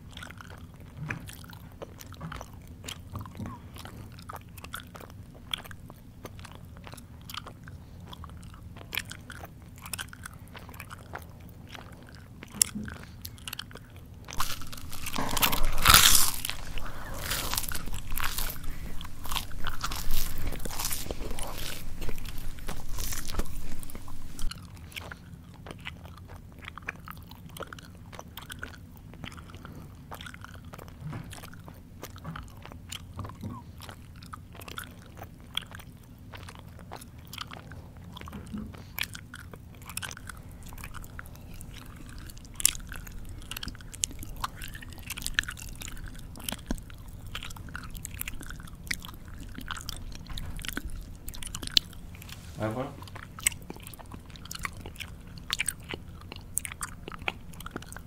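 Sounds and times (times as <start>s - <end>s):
person chewing with wet smacking: 0.0s - 58.0s.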